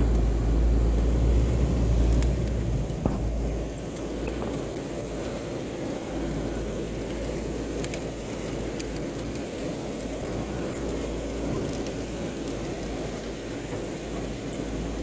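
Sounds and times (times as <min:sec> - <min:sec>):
vehicle engine rumble: 0:00.0 - 0:15.0
water washing around vehicle: 0:00.0 - 0:15.0.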